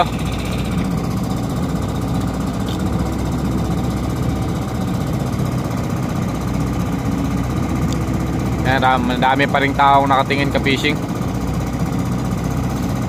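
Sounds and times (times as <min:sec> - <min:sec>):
diesel engine throbbing: 0:00.0 - 0:13.0.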